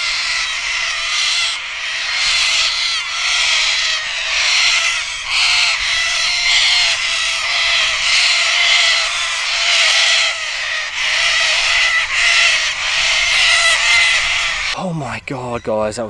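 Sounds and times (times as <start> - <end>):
cockatoos screeching: 0.0 - 14.8.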